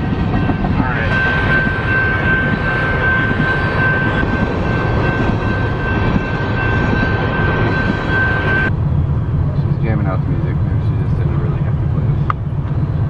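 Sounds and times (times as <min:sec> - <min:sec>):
high-pitched squeal: 0:00.0 - 0:12.2
freight train railcars rumbling: 0:00.0 - 0:13.0.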